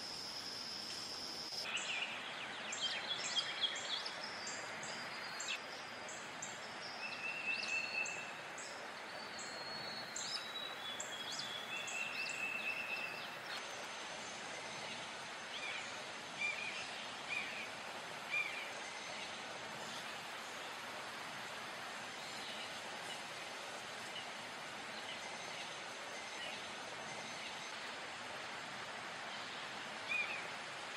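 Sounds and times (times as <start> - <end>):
outdoor background hiss: 0.0 - 30.9.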